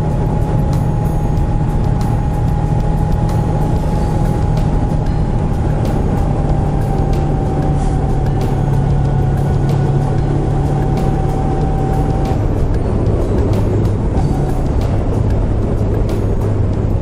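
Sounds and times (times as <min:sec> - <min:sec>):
motorcycle engine cruising: 0:00.0 - 0:17.0
rush of riding wind: 0:00.0 - 0:17.0.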